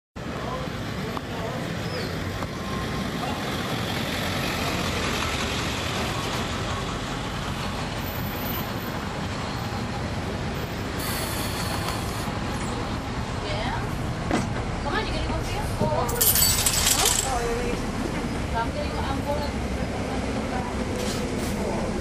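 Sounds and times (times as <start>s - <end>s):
bus engine drone: 0.2s - 16.2s, 17.2s - 22.0s.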